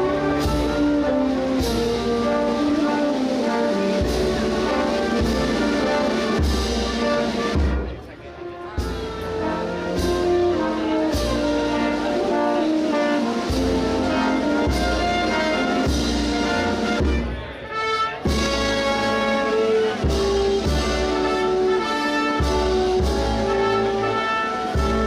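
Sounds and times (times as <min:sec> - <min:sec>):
brass band playing a march: 0:00.0 - 0:25.0.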